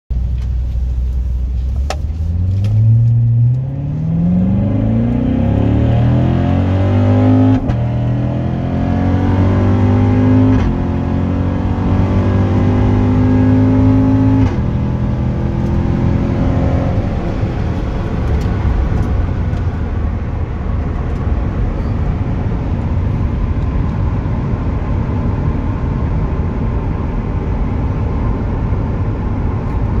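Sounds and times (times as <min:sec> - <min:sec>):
tyre and road noise: 0:00.1 - 0:27.4
car engine accelerating: 0:00.2 - 0:30.0.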